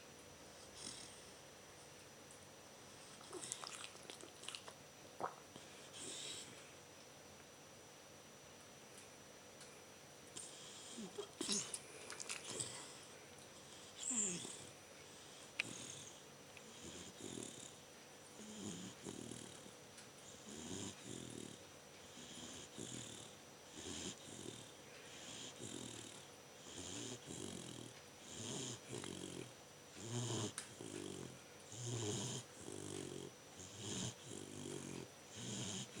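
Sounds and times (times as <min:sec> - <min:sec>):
puppy snoring: 0:00.5 - 0:01.4, 0:02.9 - 0:06.7, 0:10.4 - 0:36.0.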